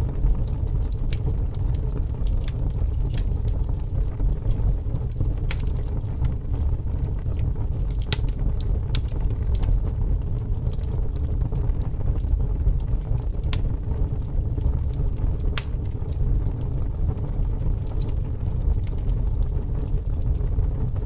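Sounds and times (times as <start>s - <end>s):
fire crackling and popping: 0.0s - 21.0s
wood fire rumbling: 0.0s - 21.0s.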